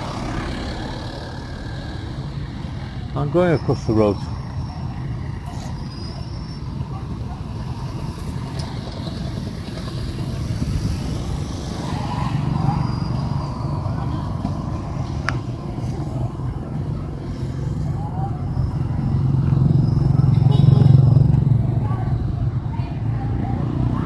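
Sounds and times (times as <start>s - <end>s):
low rumble of street traffic: 0.0s - 24.0s.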